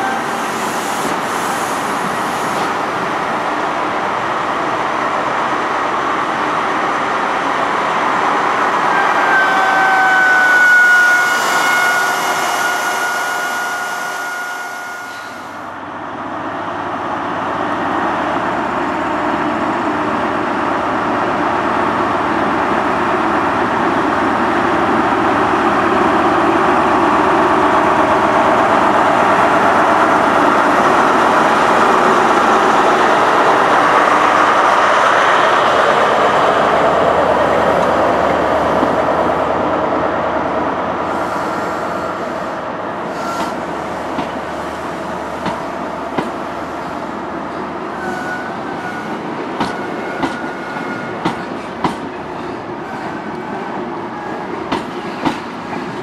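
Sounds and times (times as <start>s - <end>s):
train diesel engine: 0.0s - 56.0s.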